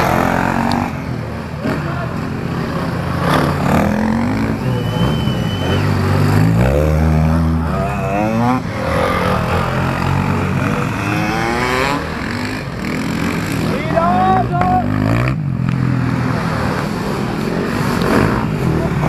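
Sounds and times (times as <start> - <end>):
motorcycles revving past: 0.0 - 19.0.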